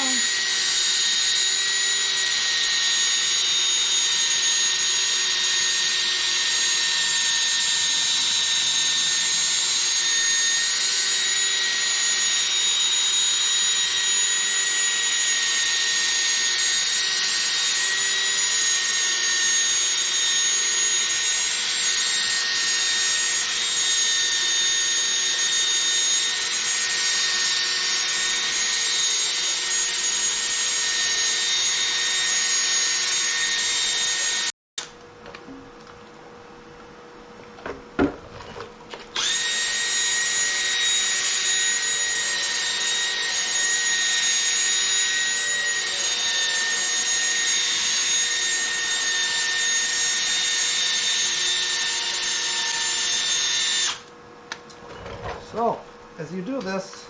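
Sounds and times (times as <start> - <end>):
cordless drill motor whine: 0.0 - 34.9, 39.1 - 54.2.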